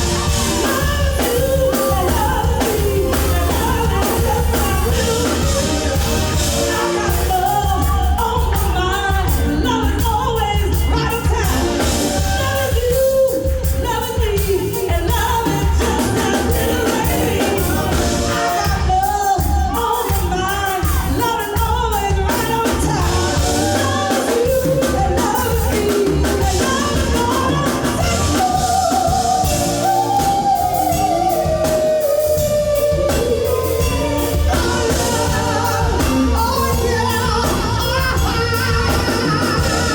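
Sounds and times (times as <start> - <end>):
bass: 0.0 - 39.9
drums: 0.0 - 39.9
woman singing live: 0.0 - 39.9.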